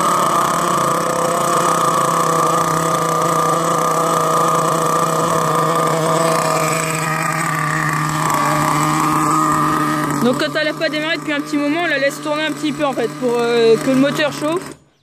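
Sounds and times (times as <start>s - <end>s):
model truck engine running: 0.0s - 15.0s.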